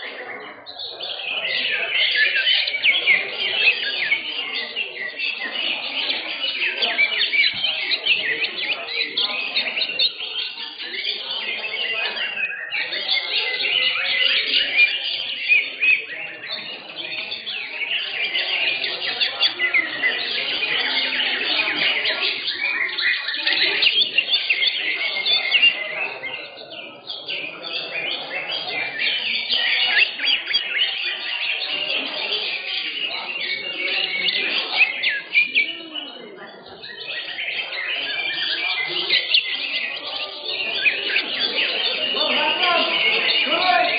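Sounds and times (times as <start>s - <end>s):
birds singing chirps and warbles: 0.0s - 43.9s.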